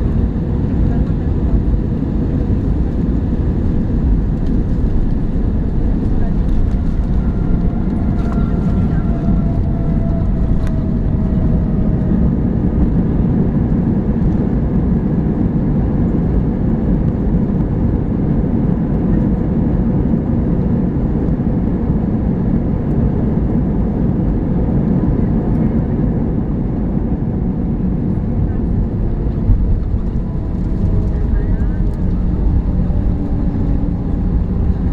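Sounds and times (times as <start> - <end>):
airplane cabin engine rumble: 0.0 - 34.9.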